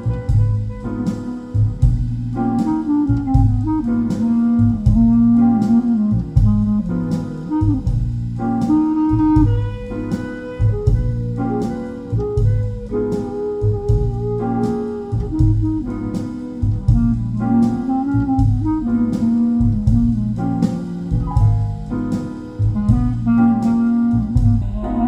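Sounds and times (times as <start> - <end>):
jazz music over loudspeakers: 0.0 - 25.0.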